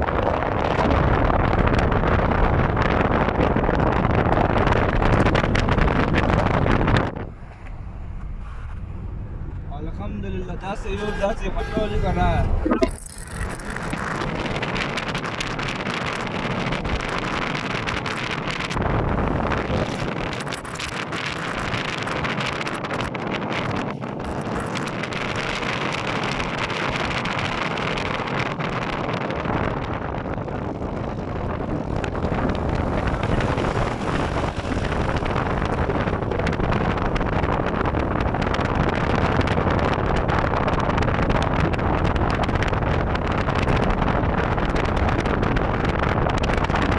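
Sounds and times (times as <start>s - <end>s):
deep rumble: 0.0s - 10.6s, 12.1s - 46.9s
wind on microphone: 0.0s - 46.9s.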